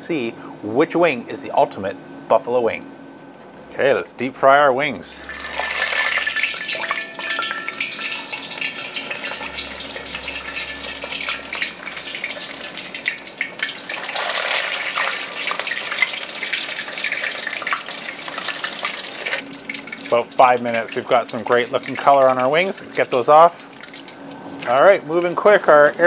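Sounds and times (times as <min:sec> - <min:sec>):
oil crackling sizzle: 0:05.1 - 0:26.0.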